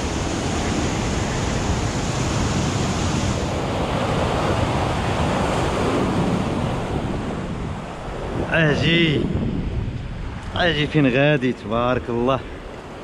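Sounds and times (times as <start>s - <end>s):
surf breaking on rocky shore: 0.0s - 13.0s.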